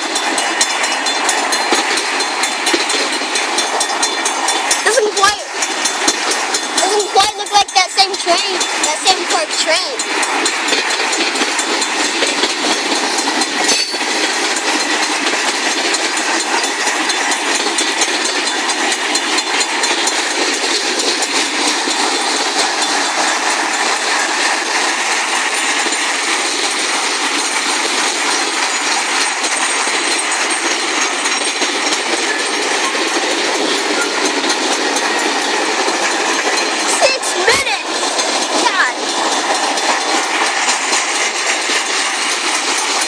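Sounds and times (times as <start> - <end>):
train wheels rumbling on rail: 0.0 - 43.0
wheels clicking over rail joints: 0.0 - 43.0.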